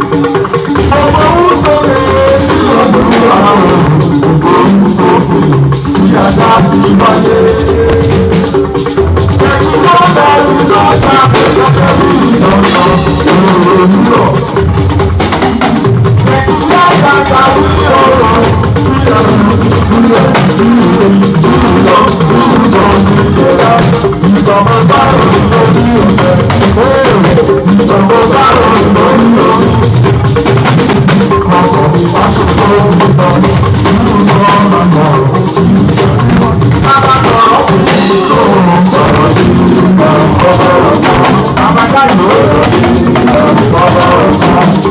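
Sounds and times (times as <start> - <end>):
loud music with percussion: 0.0 - 44.9
person singing: 0.0 - 44.9.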